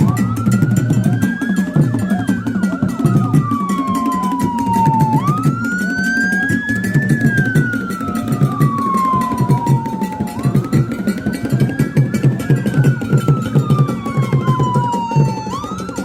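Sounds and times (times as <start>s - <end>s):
wailing siren: 0.0s - 16.0s.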